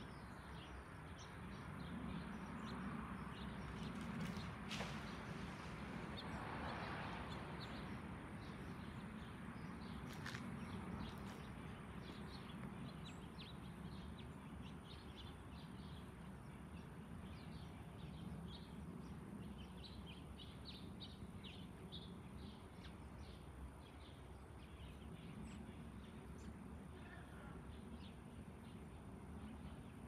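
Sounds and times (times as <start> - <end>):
jet airliner rumble overhead: 0.0 - 30.0
small birds chirping: 0.0 - 30.0.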